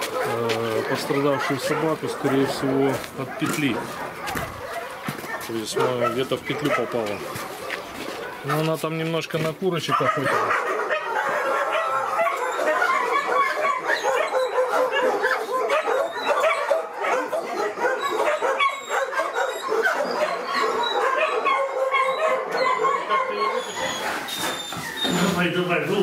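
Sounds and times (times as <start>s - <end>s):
many dogs barking: 0.0s - 26.0s.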